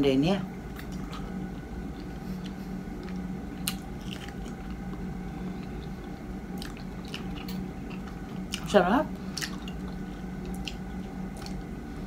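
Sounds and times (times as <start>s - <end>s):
steady low hum: 0.0s - 12.0s
chewing mango: 0.7s - 11.8s.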